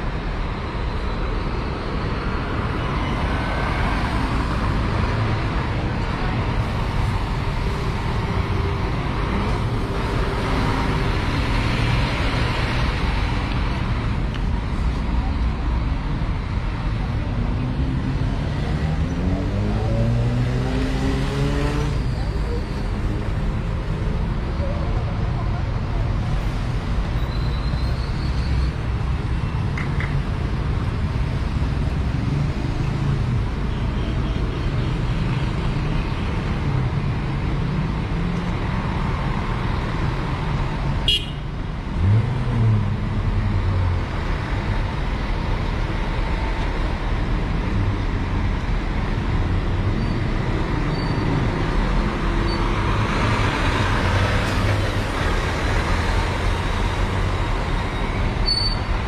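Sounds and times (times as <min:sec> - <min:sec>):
traffic engines rumbling: 0:00.0 - 0:59.0
vehicles passing: 0:00.0 - 0:59.0.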